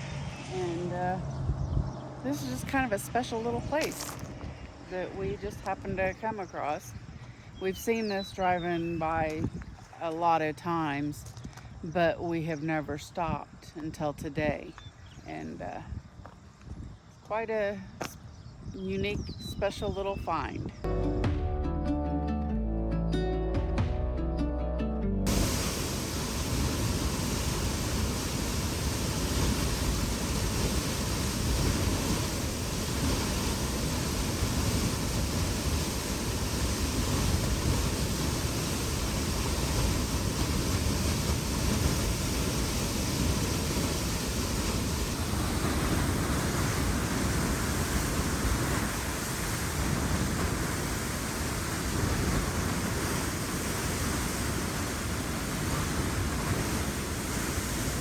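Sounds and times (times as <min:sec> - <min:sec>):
wind blowing across microphone: 0:00.0 - 0:20.9, 0:25.3 - 0:58.0.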